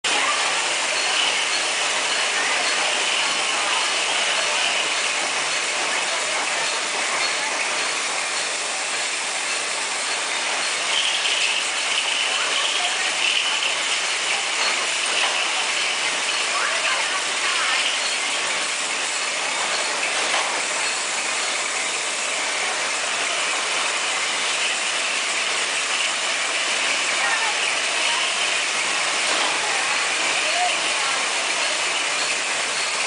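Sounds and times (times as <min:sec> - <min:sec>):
metal caps rattling on conveyor: 0:00.1 - 0:33.0.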